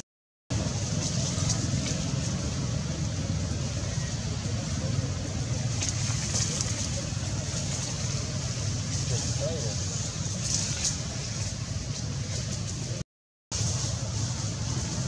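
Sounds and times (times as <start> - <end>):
motor vehicle engine hum: 0.5 - 15.0.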